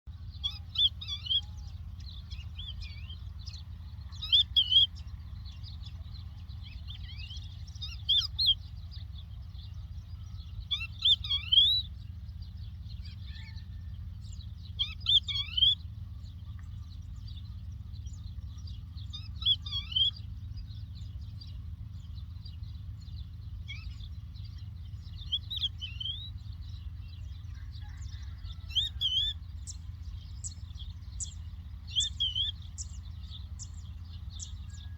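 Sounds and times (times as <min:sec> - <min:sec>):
lark singing: 0:00.1 - 0:34.9
steady low rumble: 0:00.1 - 0:34.9.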